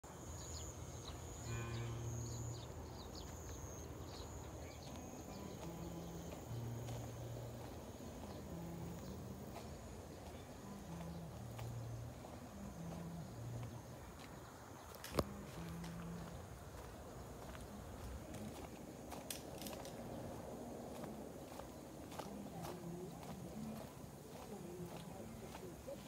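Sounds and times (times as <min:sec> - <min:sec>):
high insect trill: 0:00.1 - 0:26.0.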